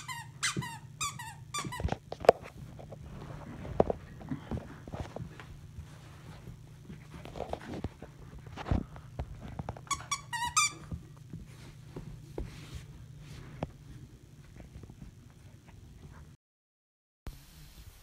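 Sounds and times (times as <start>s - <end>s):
puppy scuffling on carpet: 0.1s - 16.4s.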